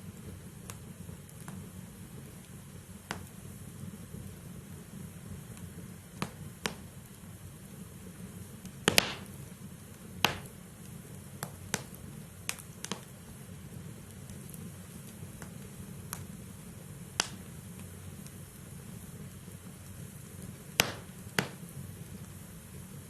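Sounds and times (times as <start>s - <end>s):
burning logs crackling and popping: 0.0s - 23.0s
low rumble of flames: 0.0s - 23.0s.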